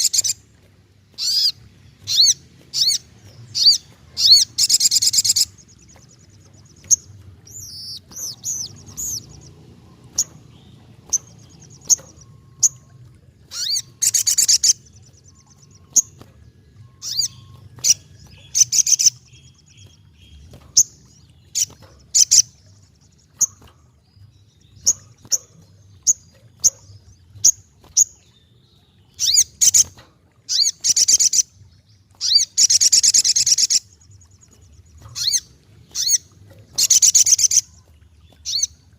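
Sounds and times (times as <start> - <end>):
bird chips and twittering: 0.0 - 38.9.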